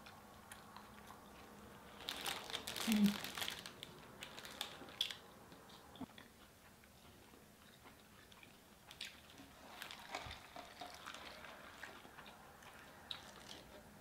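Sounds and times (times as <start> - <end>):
faint chewing: 0.0 - 14.0.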